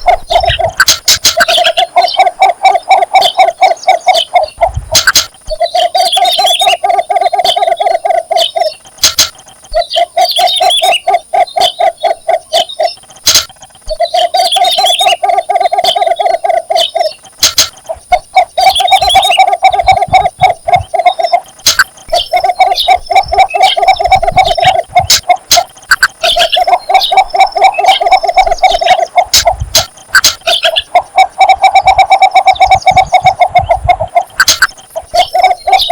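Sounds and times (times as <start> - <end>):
bird clucking call: 0.0 - 35.9.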